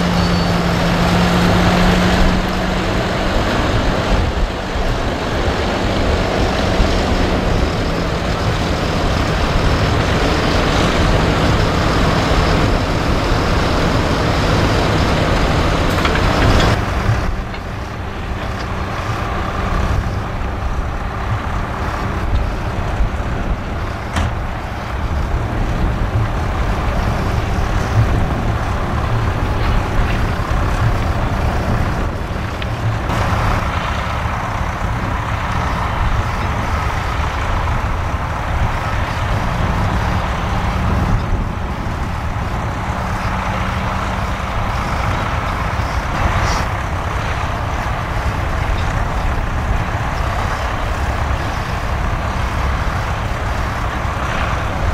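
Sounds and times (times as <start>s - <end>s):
tractor engine running under load: 0.0s - 54.9s.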